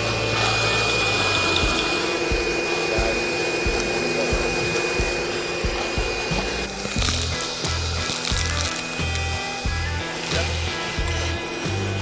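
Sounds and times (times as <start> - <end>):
shop vacuum running: 0.0 - 12.0.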